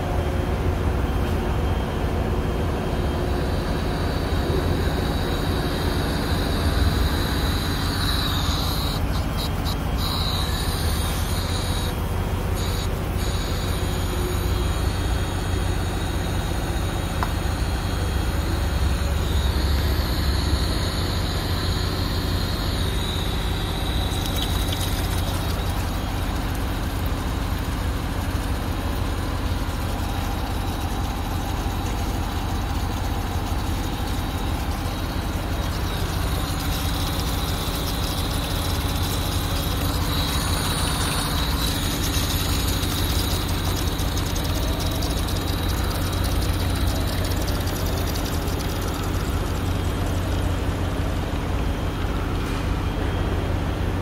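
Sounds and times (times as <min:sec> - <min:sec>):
electric pump humming: 0:00.0 - 0:54.0.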